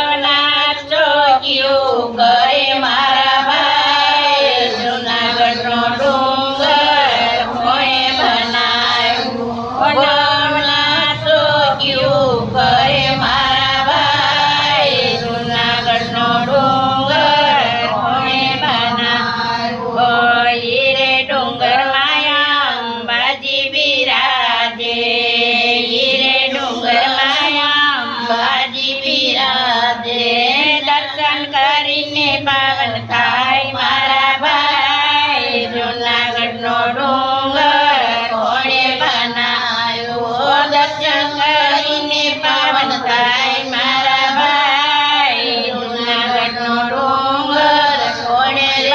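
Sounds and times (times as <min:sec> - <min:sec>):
women singing devotional song: 0:00.0 - 0:48.9.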